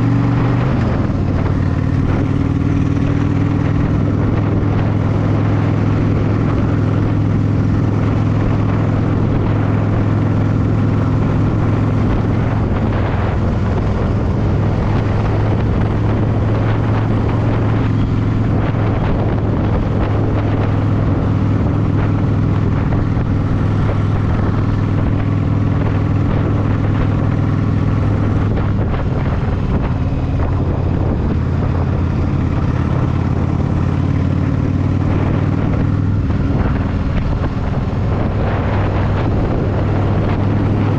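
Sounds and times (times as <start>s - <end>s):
motorcycle engine cruising: 0.0s - 40.9s
wind noise on microphone: 0.0s - 40.9s.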